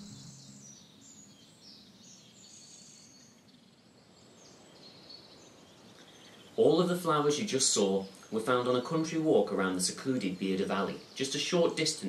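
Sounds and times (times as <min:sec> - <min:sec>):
faint birdsong chirps and trills: 0:00.0 - 0:12.0.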